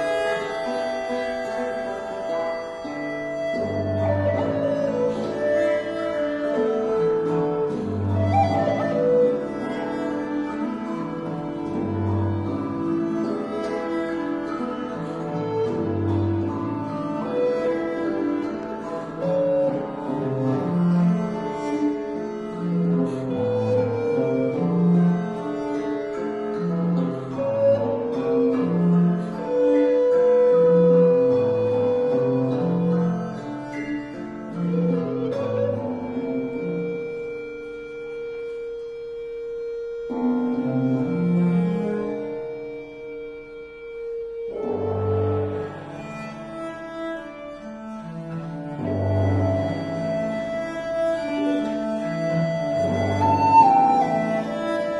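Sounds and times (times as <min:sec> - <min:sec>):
early music ensemble playing: 0:00.0 - 0:54.9
plucked and wind instruments: 0:00.0 - 0:54.9
viola da gamba bowing: 0:00.0 - 0:54.9.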